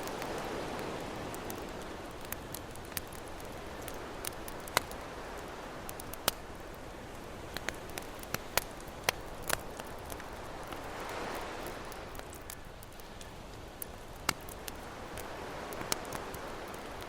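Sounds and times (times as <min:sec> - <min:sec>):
campfire crackling: 0:00.0 - 0:17.0
ocean waves: 0:00.0 - 0:17.0.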